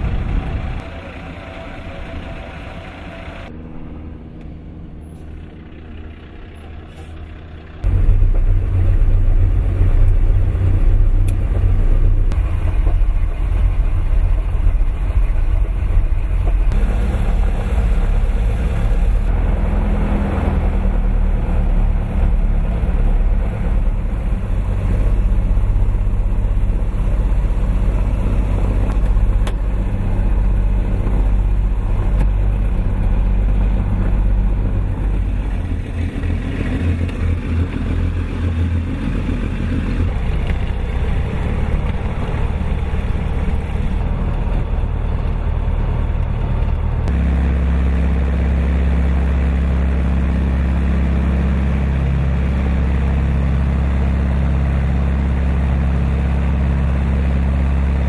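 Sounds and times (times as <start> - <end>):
aircraft piston engines droning: 0.0 - 58.0
low ramp ambience hum: 0.0 - 58.0.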